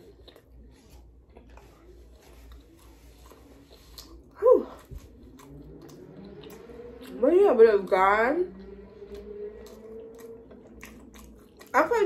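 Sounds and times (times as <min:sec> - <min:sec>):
chewing with wet mouth clicks: 0:00.0 - 0:07.2, 0:08.6 - 0:12.0.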